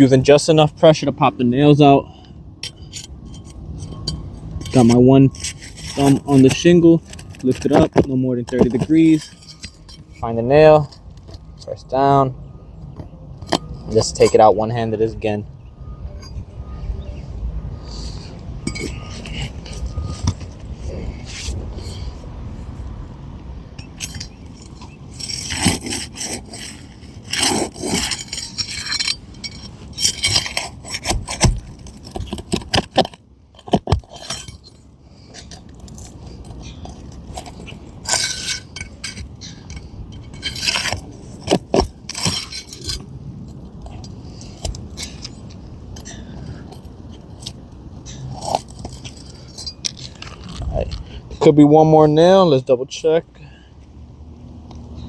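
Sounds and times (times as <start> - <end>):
hand tool scraping under shingle: 0.2 - 12.2, 12.9 - 15.4, 17.8 - 23.2, 23.8 - 52.4.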